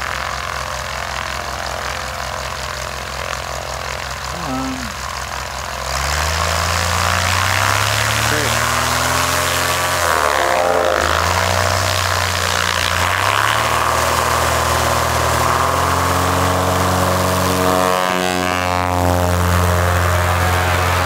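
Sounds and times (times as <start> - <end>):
light aircraft engine and propeller: 0.0 - 21.0.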